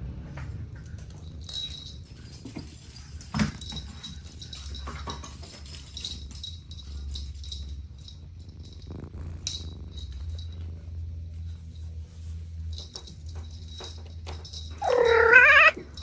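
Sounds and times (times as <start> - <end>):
low steady rumble: 0.0 - 16.0
paws scuffling and tapping: 0.9 - 16.0.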